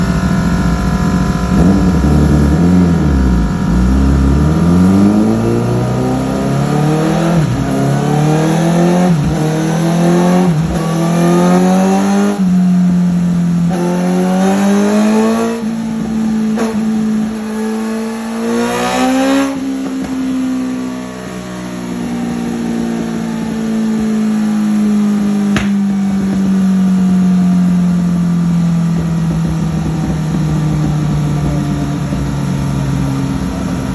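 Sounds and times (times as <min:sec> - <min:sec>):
motorcycle engine revving and idling: 0:00.0 - 0:33.9.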